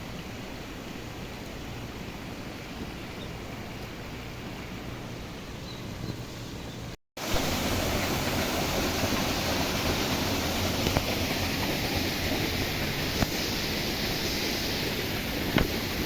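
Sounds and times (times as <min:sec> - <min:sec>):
floodwater rushing: 0:00.0 - 0:05.6, 0:07.2 - 0:16.0.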